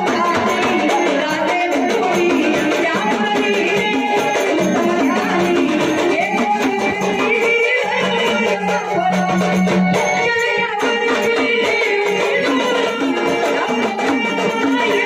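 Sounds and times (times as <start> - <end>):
barrel hand drum: 0.0 - 15.0
rattling percussion: 0.0 - 15.0
woman singing: 0.0 - 15.0.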